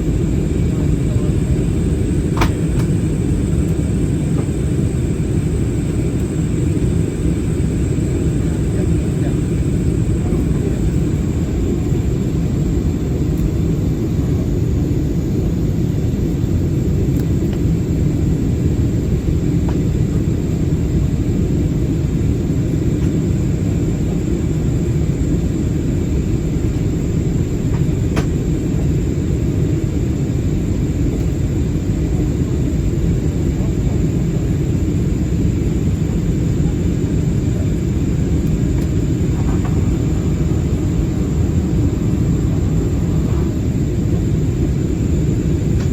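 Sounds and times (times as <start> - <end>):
faint high whine: 0.0 - 16.7, 22.1 - 45.9
airplane cabin engine rumble: 0.0 - 45.9.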